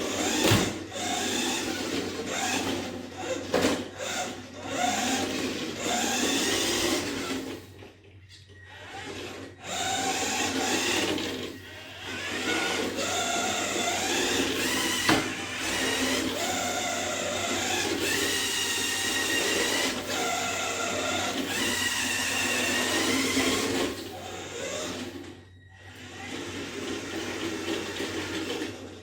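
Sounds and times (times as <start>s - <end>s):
toy car motor whining: 0.0s - 29.0s.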